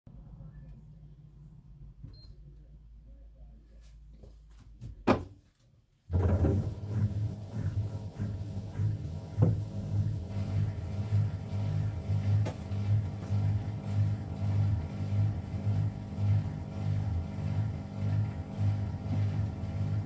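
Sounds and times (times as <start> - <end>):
low machine hum: 0.1 - 3.8, 6.1 - 20.0.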